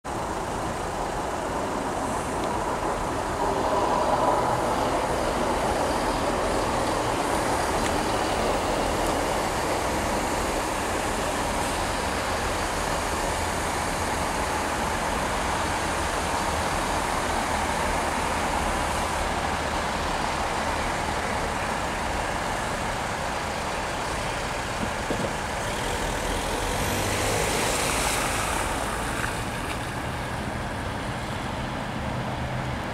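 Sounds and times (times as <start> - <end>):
diesel train engines rumbling: 0.1 - 32.9.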